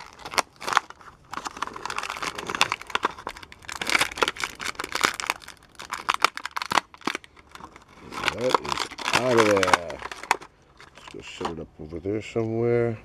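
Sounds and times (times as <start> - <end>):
plastic packaging crinkling and tearing: 0.0 - 11.6.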